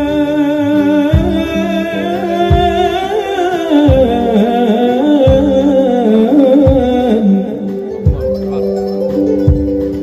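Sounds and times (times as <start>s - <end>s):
low drum beat: 0.0s - 10.0s
string ensemble melody: 0.0s - 10.0s.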